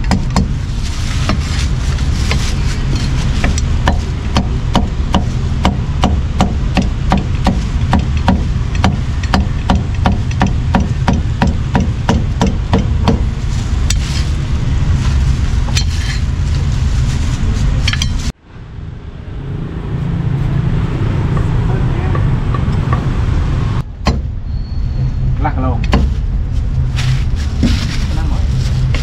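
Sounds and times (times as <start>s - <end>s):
street traffic rumble: 0.0s - 29.0s.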